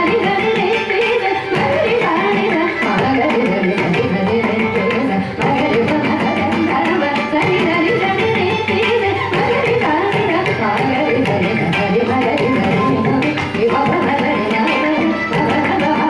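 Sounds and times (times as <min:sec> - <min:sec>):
violin: 0:00.0 - 0:16.0
woman singing: 0:00.0 - 0:16.0.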